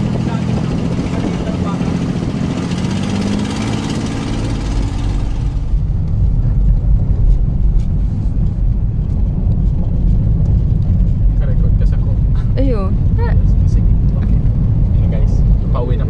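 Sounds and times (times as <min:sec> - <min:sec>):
boat engine running: 0:00.0 - 0:16.0
car engine and tyres rumbling: 0:00.0 - 0:16.0
wind and water noise: 0:00.0 - 0:16.0.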